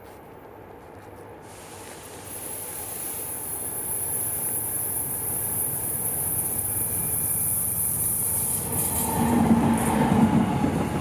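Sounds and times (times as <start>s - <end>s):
passenger train rumble: 0.0s - 11.0s.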